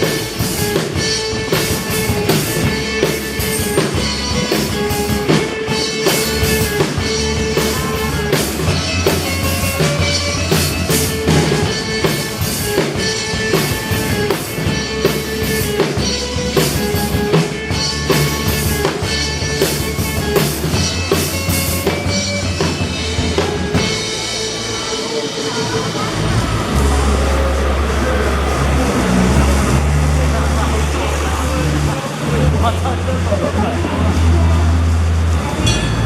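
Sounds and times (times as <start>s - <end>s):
drum kit beat: 0.0s - 31.8s
rock band playing: 0.0s - 36.0s.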